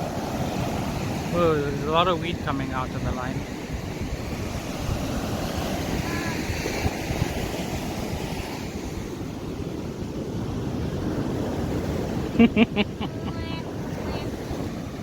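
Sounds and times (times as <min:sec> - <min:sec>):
ocean surf breaking on shore: 0:00.0 - 0:15.0
wind buffeting microphone: 0:00.0 - 0:15.0.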